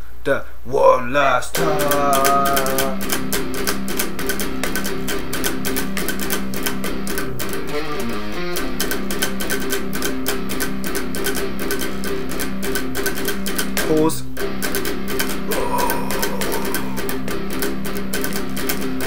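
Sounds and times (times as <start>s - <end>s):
electric guitar chugging riff: 1.6s - 19.0s.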